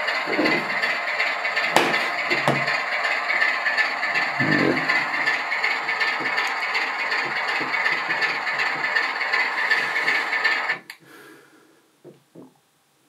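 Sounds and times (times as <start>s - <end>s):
rattly diesel engine sound from speaker: 0.0s - 10.9s.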